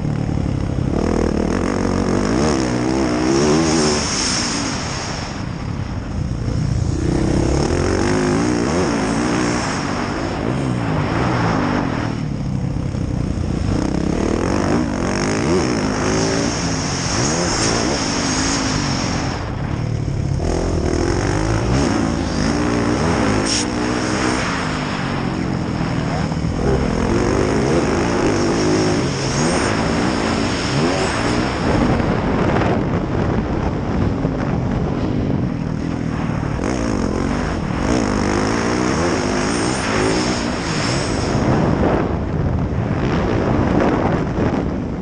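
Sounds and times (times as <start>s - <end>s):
dirt bike engine revving: 0.0s - 44.5s.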